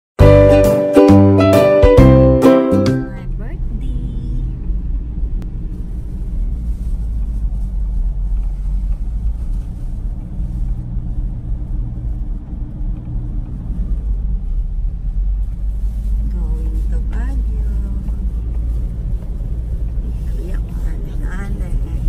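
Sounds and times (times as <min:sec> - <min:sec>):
car interior road and engine rumble: 0:00.2 - 0:22.0.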